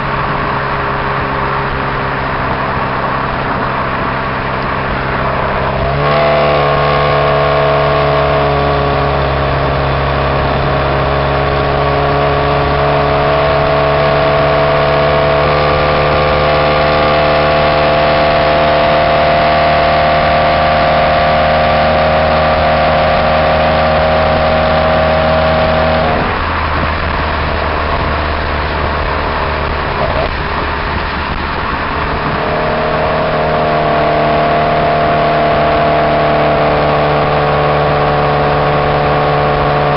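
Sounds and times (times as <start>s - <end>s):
car exhaust droning: 0.0s - 39.9s.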